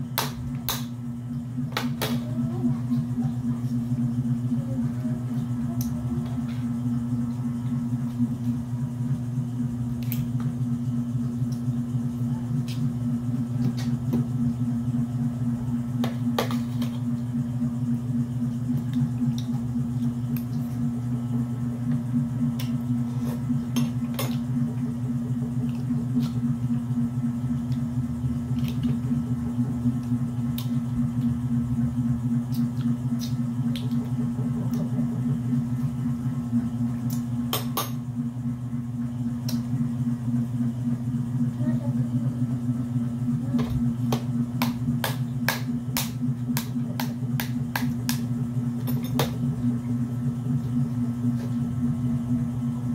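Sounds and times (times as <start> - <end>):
low hum: 0.0 - 52.9.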